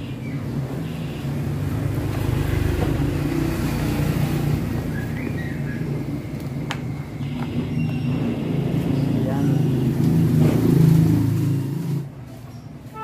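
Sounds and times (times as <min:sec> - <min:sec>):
engine running: 0:00.5 - 0:12.4.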